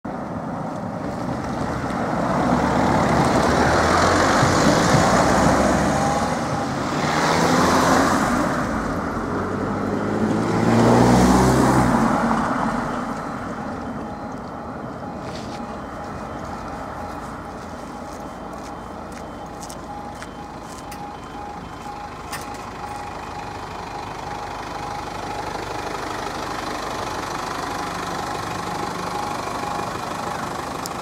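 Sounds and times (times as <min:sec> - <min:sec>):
vehicles driving past: 0:00.1 - 0:31.0.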